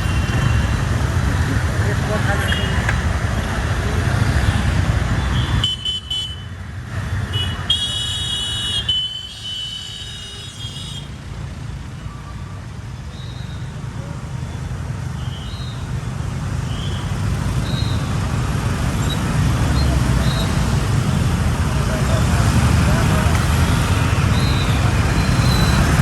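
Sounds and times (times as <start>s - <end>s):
road vehicle running: 0.0s - 5.6s, 10.3s - 26.0s
traffic noise: 0.0s - 26.0s.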